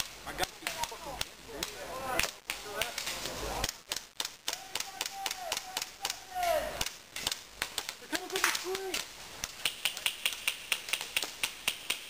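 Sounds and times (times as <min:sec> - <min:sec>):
voices calling out: 0:00.0 - 0:11.2
airsoft guns firing: 0:00.0 - 0:12.0.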